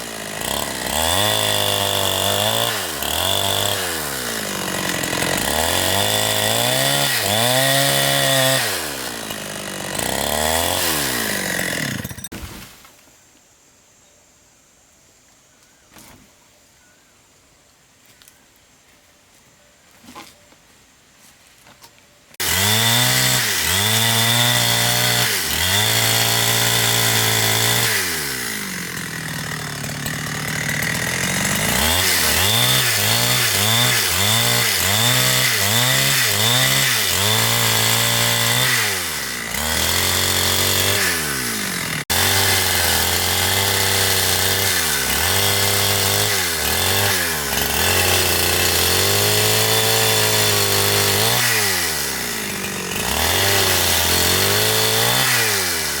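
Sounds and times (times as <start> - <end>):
chainsaw revving: 0.0 - 12.3, 22.4 - 56.0.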